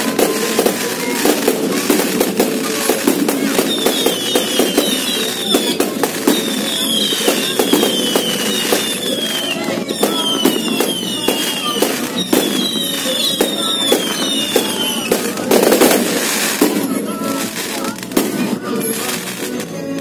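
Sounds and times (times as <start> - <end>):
falling whistles of fireworks: 0.0 - 19.6
fireworks bursting and crackling: 0.0 - 20.0.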